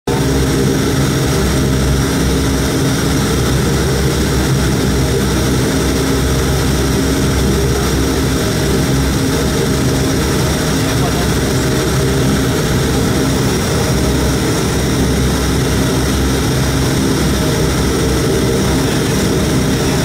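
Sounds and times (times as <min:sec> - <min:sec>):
turboprop engine drone: 0:00.0 - 0:20.0.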